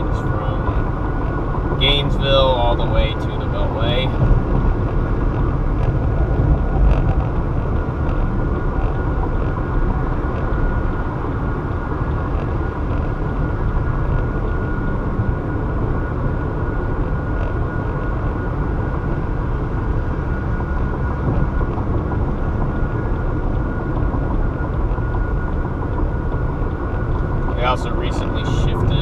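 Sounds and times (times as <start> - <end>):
car driving at speed: 0.0 - 29.0
faint steady whine: 0.0 - 29.0.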